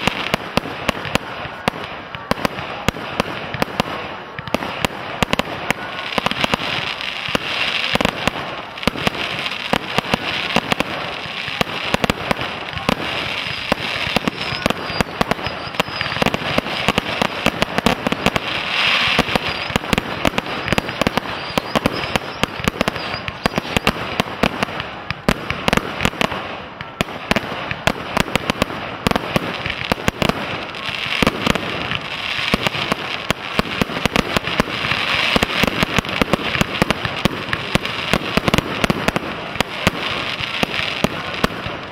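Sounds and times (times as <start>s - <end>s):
fireworks bangs: 0.0s - 41.9s
fireworks crackling: 0.0s - 41.9s.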